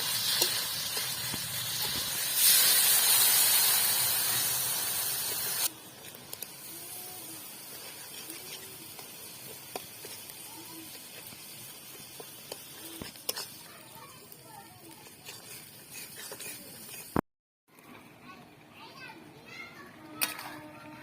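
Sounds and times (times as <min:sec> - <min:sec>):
food sizzling in hot oil: 0:00.0 - 0:17.2.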